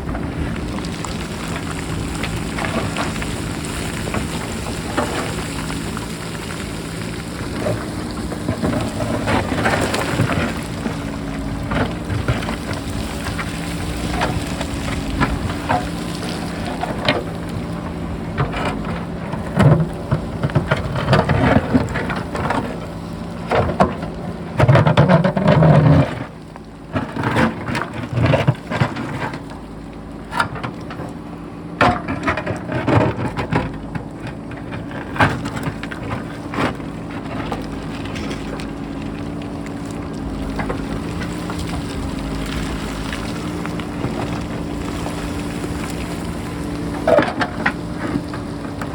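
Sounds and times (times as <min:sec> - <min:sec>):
diesel engine running: 0:00.0 - 0:48.9
rocks and soil tumbling downhill: 0:00.0 - 0:48.9.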